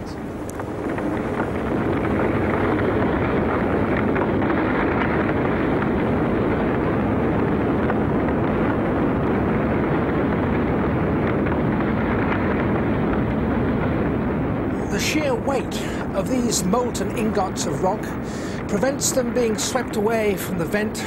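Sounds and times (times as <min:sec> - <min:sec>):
faint crackles: 0:00.0 - 0:21.0
lava fountain rushing: 0:00.0 - 0:21.0
wind on microphone: 0:00.0 - 0:21.0.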